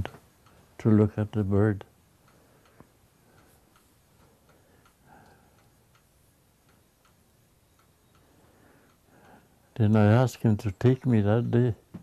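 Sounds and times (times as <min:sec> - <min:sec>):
clock ticking: 0:00.0 - 0:11.6.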